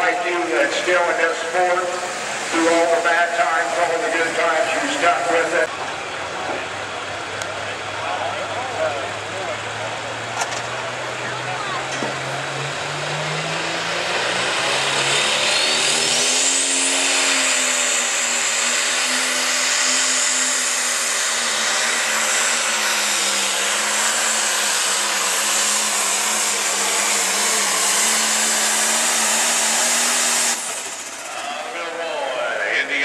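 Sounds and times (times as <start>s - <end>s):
diesel engine running flat out: 0.0s - 33.0s.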